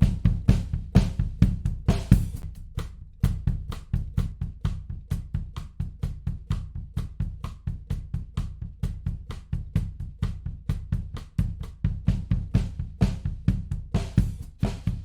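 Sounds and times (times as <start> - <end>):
drum kit playing fast beat: 0.0 - 15.0.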